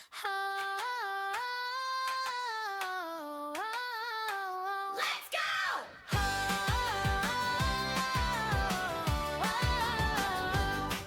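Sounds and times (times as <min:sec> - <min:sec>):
woman singing wordless melody: 0:00.0 - 0:05.3, 0:06.1 - 0:11.0.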